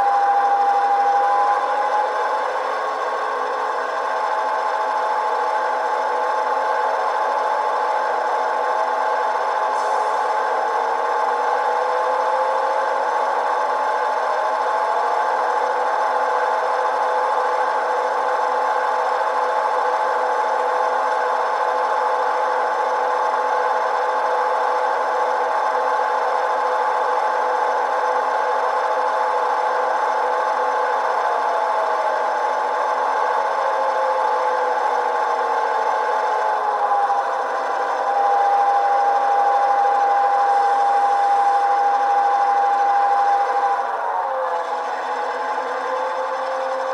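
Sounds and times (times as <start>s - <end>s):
diesel locomotive engine through tiny speakers: 0.0s - 46.9s.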